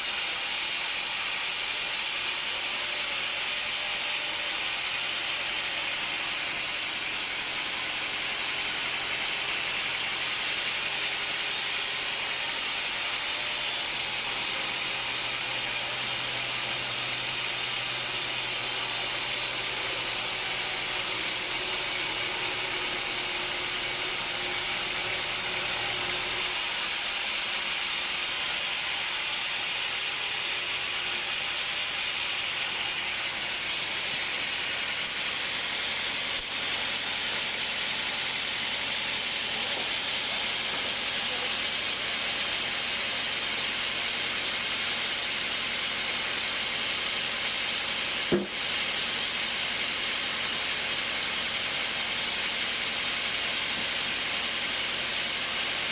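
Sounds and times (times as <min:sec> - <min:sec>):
sawmill machinery hissing: 0:00.0 - 0:55.9.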